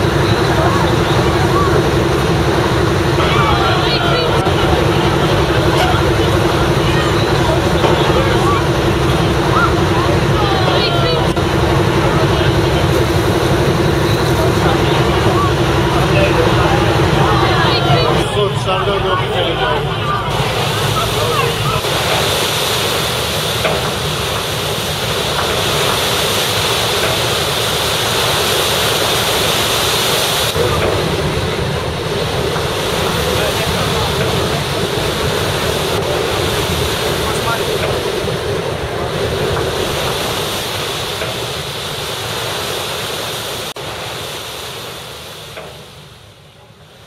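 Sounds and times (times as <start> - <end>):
boat engine drone: 0.0 - 47.0
water splashing: 0.0 - 47.0.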